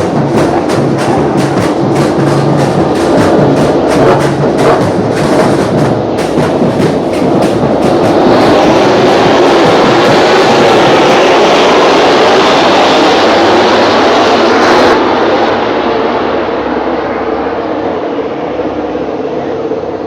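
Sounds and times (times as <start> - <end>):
vehicle in motion: 0.0 - 20.0.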